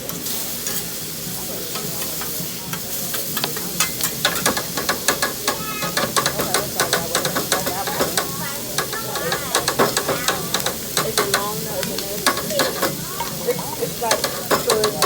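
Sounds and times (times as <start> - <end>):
food sizzling on a griddle: 0.0 - 15.0.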